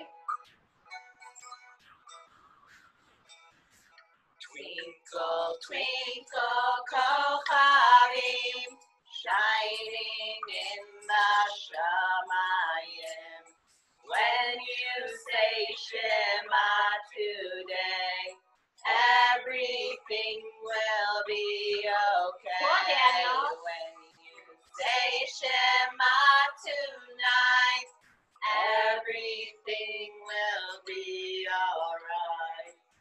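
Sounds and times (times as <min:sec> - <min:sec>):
woman singing a children's song: 0:04.4 - 0:13.5, 0:14.1 - 0:32.8.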